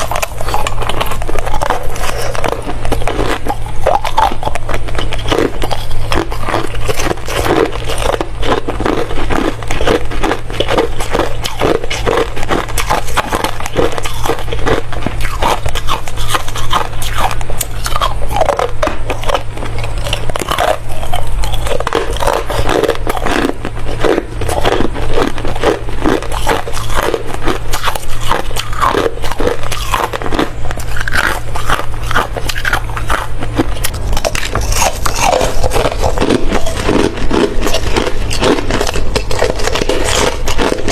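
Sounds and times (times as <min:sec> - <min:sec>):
ice crunching between teeth: 0:00.0 - 0:40.9.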